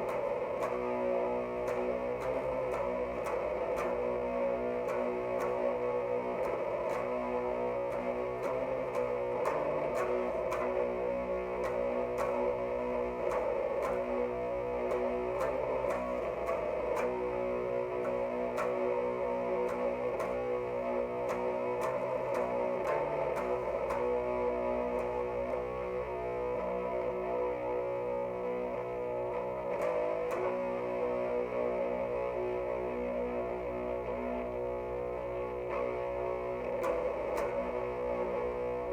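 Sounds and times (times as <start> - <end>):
distorted electric guitar riff: 0.0 - 38.9.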